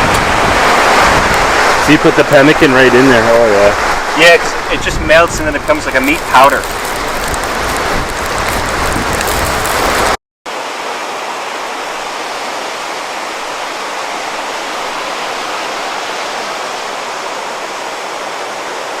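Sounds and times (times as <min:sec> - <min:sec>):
rush of river rapids: 0:00.0 - 0:19.0.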